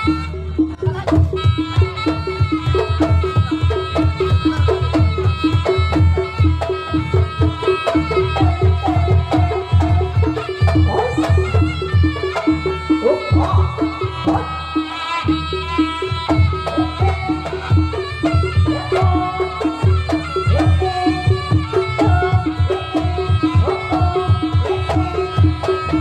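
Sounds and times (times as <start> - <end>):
pitched percussion notes: 0.0 - 26.0
sustained melody line: 0.0 - 26.0
fast drum rhythm: 0.8 - 26.0.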